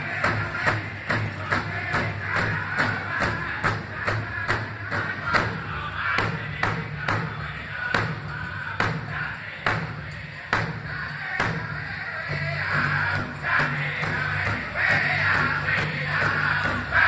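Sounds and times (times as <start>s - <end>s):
big drum steady beat: 0.0s - 17.0s
people singing: 0.0s - 17.0s.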